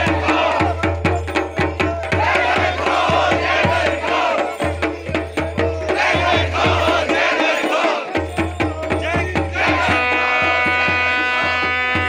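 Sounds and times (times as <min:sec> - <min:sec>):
crowd shouting and chanting: 0:00.0 - 0:12.0
fast drumbeats: 0:00.0 - 0:12.0.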